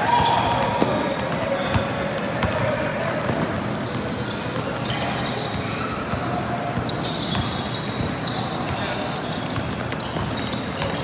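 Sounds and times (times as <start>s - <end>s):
murmur of crowd and players: 0.0s - 11.0s
sneaker squeaks: 0.0s - 11.0s.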